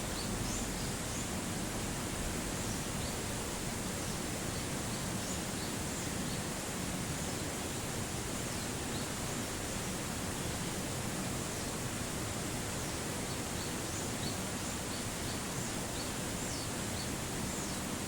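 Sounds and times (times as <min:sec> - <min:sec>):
outdoor ambient noise: 0:00.0 - 0:18.0.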